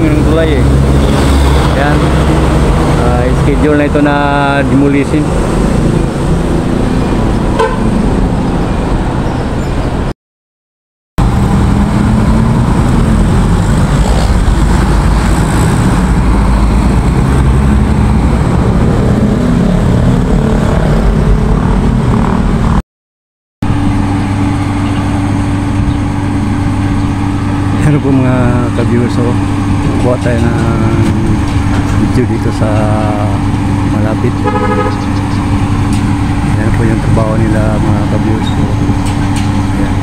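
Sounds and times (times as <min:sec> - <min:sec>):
low engine hum: 0:00.0 - 0:10.1, 0:11.2 - 0:22.8, 0:23.6 - 0:40.0
vehicle engines and road noise: 0:00.0 - 0:10.1, 0:11.2 - 0:22.8, 0:23.6 - 0:40.0.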